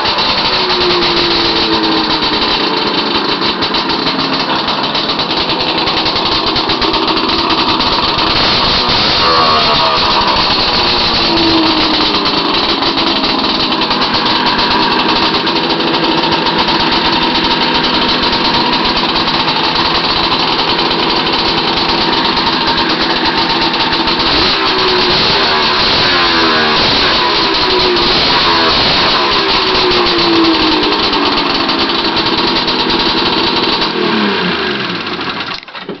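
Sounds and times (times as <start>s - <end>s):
snowmobile engine revving: 0.0s - 35.5s.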